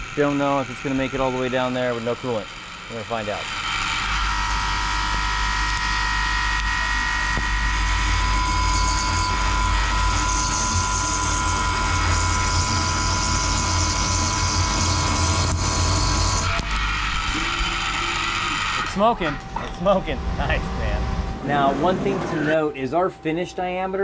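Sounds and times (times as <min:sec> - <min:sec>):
drill whine: 0:00.0 - 0:21.6
low machine hum: 0:00.0 - 0:24.0.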